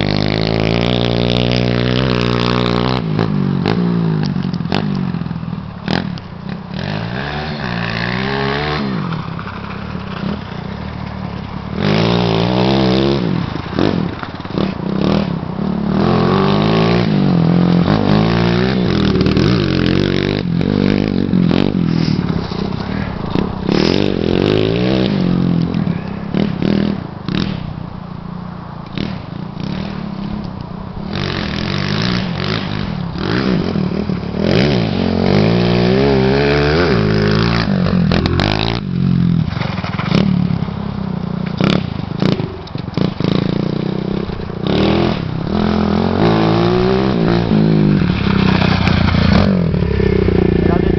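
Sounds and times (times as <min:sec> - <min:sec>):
dirt bike engine revving: 0:00.0 - 0:27.8, 0:31.0 - 0:50.9.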